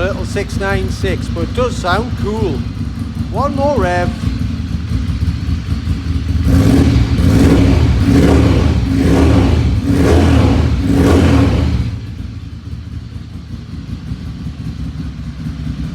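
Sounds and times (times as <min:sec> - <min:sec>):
motorcycle engine burbling idle: 0:00.0 - 0:15.9
motorcycle engine revving: 0:00.0 - 0:15.9.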